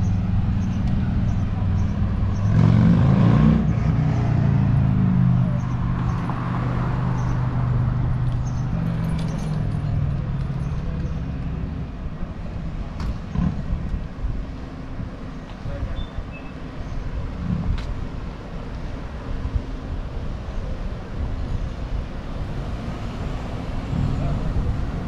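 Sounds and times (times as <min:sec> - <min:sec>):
traffic noise: 0:00.0 - 0:25.0
vehicle engine humming: 0:00.0 - 0:25.0.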